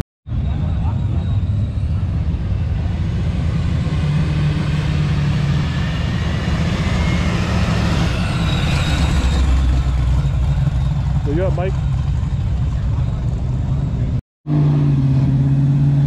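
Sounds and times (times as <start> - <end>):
car engine running low: 0.3 - 16.0.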